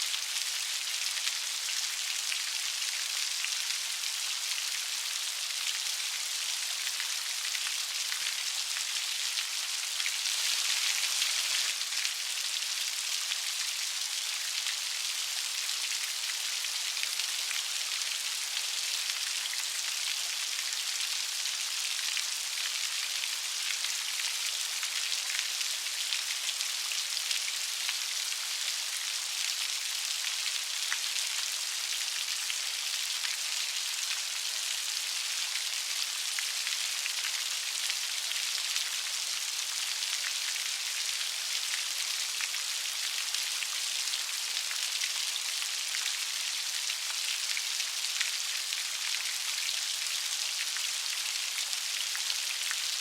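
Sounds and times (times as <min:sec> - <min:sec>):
light rain pattering: 0:00.0 - 0:53.0.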